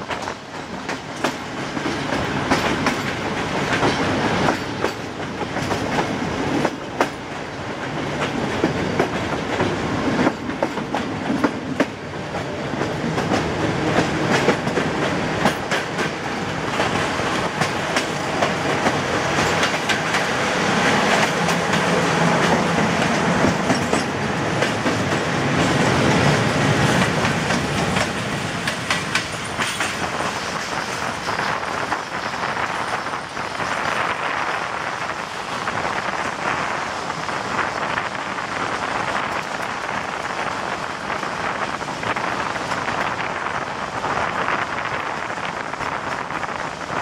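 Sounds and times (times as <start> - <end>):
clickety-clack over rail joints: 0.0 - 47.0
freight train passing alongside: 0.0 - 47.0
train wheels rumbling on rails: 0.0 - 47.0.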